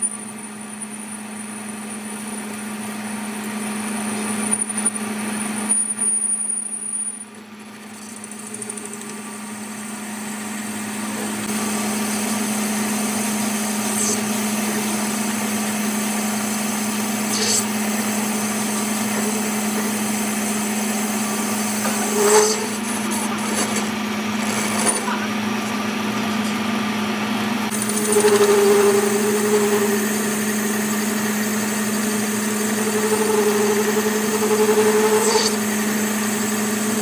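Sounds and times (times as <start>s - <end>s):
workshop machine motor humming: 0.0s - 37.0s.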